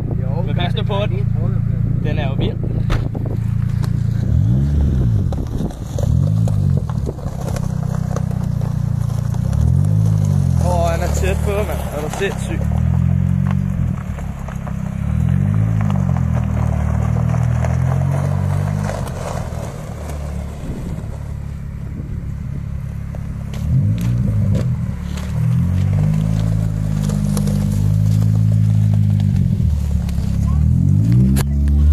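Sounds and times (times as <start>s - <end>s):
car engine revving: 0.0s - 31.9s
footsteps on gravel: 2.8s - 21.7s, 22.5s - 31.9s.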